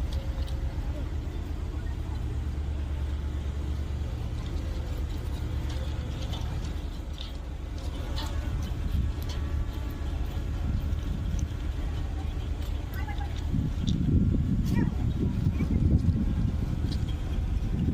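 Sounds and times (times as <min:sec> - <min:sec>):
heavy machinery engine rumbling: 0:00.0 - 0:17.9.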